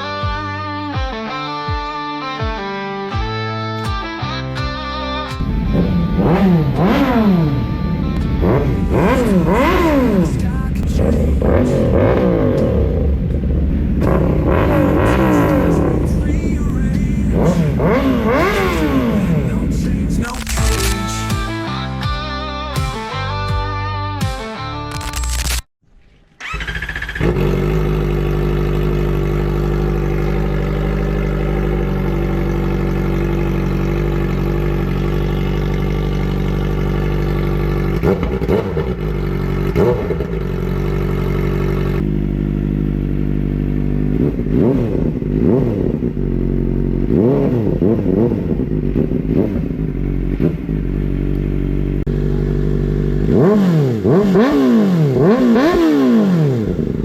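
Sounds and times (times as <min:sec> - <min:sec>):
motorcycle engine revving: 0:05.3 - 0:20.9, 0:26.4 - 0:57.0.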